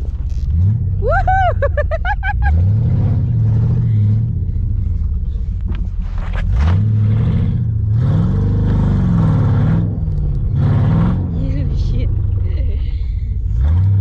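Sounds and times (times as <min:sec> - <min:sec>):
pickup truck engine revving: 0:00.0 - 0:05.4, 0:06.0 - 0:12.7, 0:13.4 - 0:14.0.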